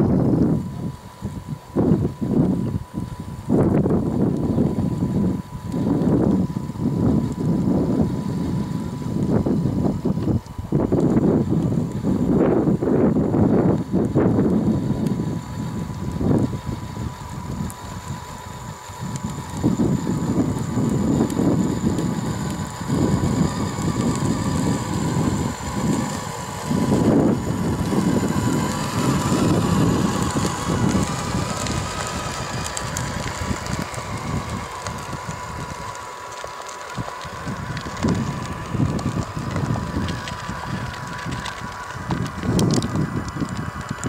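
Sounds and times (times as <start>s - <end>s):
low rumbling surges: 0.0s - 44.0s
model truck high whine: 0.0s - 44.0s.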